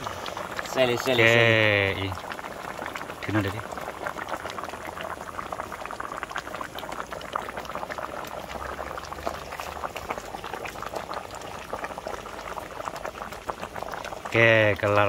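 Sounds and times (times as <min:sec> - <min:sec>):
broth bubbling at a rolling boil: 0:00.0 - 0:15.0.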